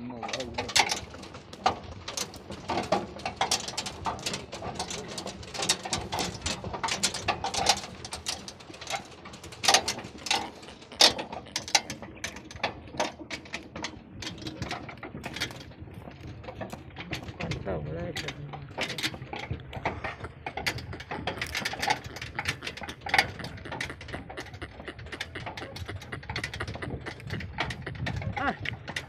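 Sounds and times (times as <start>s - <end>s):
metal cart rattling and clanking: 0.0s - 29.0s.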